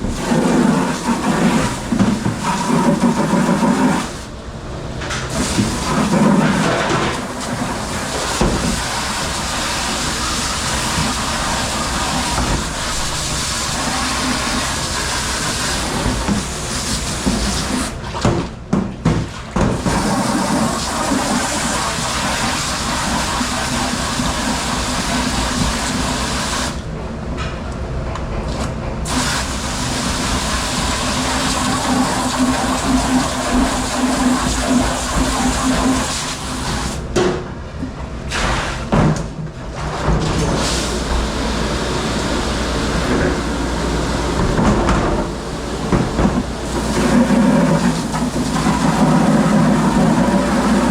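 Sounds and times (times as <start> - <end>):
water spraying and running: 0.0 - 4.3, 5.3 - 18.4, 19.2 - 26.8, 28.5 - 37.1, 39.8 - 50.9.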